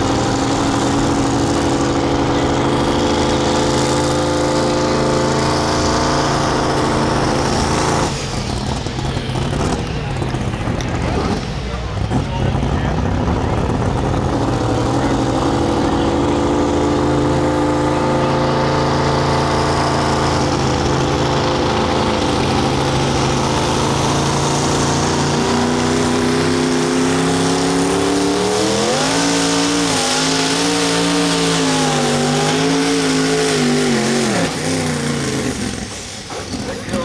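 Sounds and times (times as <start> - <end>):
truck engine running hard: 0.0 - 37.0.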